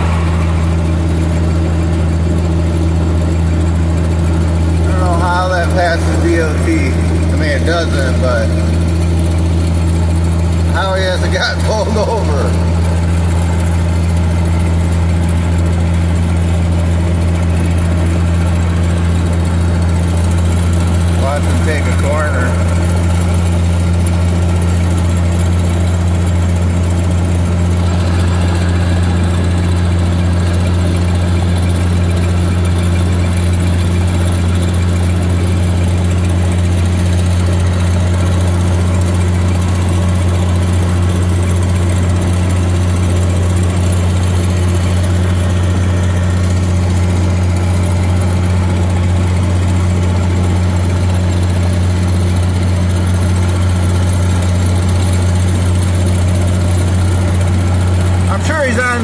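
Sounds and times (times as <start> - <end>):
vehicle engine and road noise: 0.0 - 59.0.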